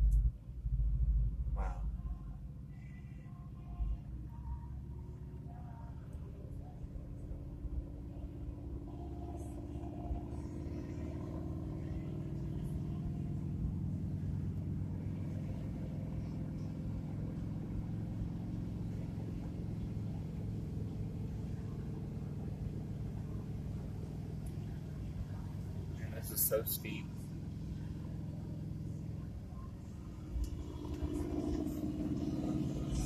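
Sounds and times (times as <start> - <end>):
car engine pulling uphill: 0.0 - 33.0
road and wind noise: 0.0 - 33.0.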